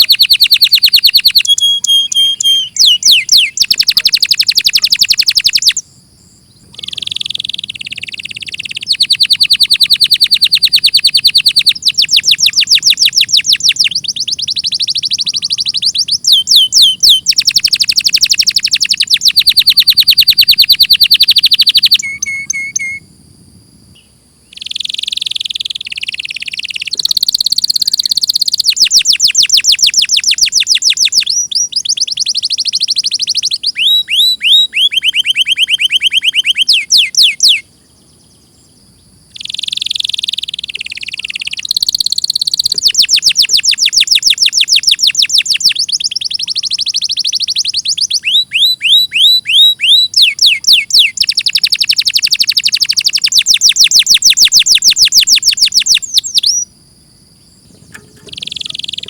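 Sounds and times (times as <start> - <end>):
canary singing trills: 0.0 - 23.2, 23.9 - 56.7, 57.3 - 59.0.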